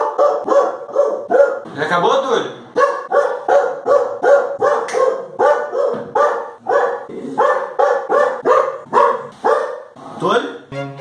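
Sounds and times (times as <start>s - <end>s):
dog barking: 0.0s - 1.7s, 2.8s - 10.0s.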